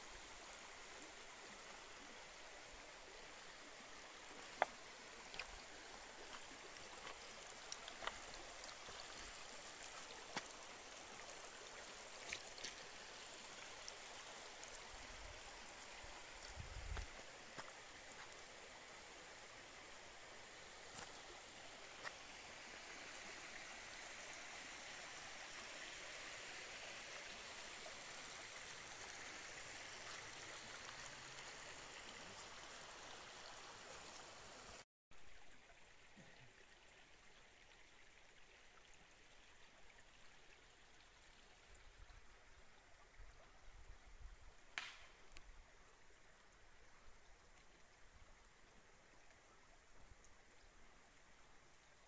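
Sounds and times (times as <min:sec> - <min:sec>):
creek trickling over stones: 0:00.0 - 0:52.0.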